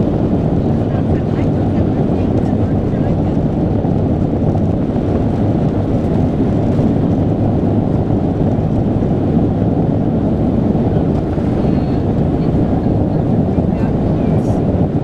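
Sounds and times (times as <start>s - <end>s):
jet engine cabin noise: 0.0s - 15.0s.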